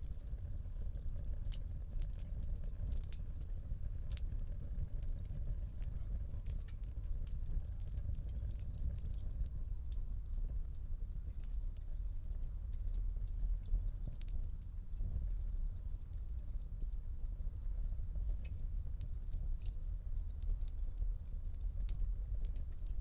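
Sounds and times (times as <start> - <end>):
low rumble of flames: 0.0 - 23.0
wood fire crackling and popping: 0.0 - 23.0.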